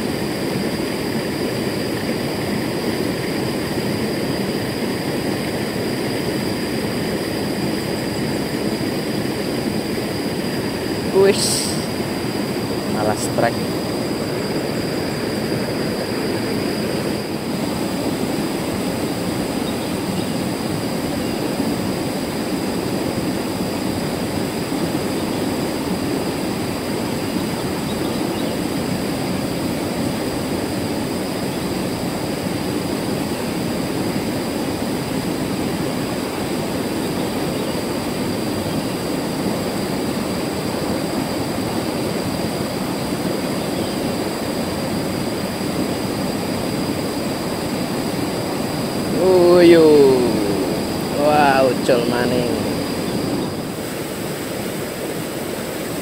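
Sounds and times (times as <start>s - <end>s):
river rushing through rapids: 0.0s - 56.0s.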